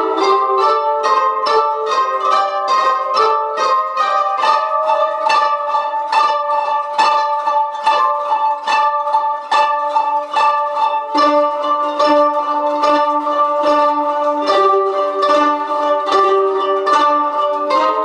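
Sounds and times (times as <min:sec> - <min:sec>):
zithers plucked in unison: 0:00.0 - 0:18.0.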